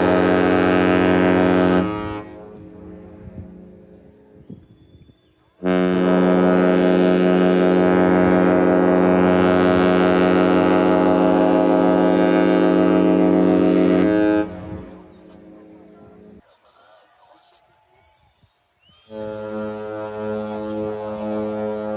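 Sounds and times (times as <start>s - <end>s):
ship horn blast: 0.0s - 4.2s, 5.6s - 16.4s, 19.1s - 21.9s.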